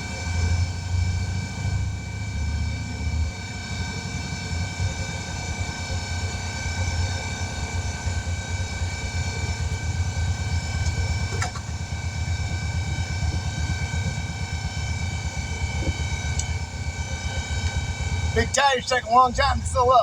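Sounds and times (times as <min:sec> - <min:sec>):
air compressor running: 0:00.0 - 0:19.7.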